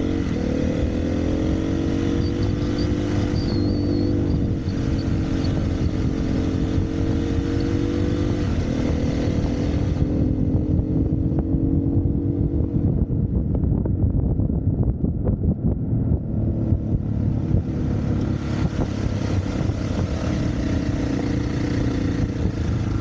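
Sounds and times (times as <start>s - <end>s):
dirt bike engine running: 0.0s - 12.2s, 16.6s - 23.0s
wind on microphone: 0.0s - 23.0s.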